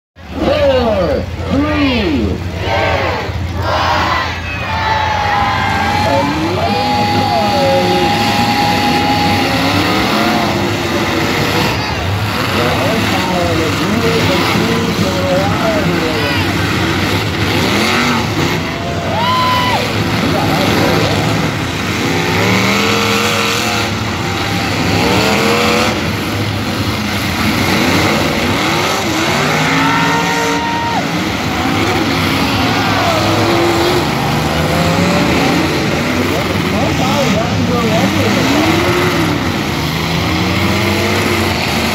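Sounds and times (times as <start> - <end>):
many car engines revving: 0.2 - 41.9.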